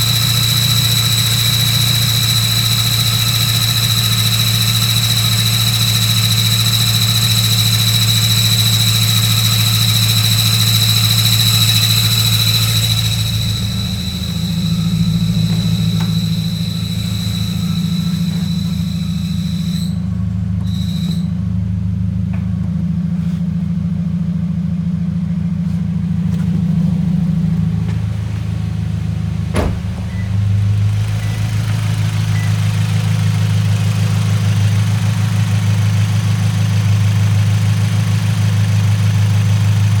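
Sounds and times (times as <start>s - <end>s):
car engine idling: 0.0s - 40.0s
high-pitched bearing whine: 0.0s - 40.0s.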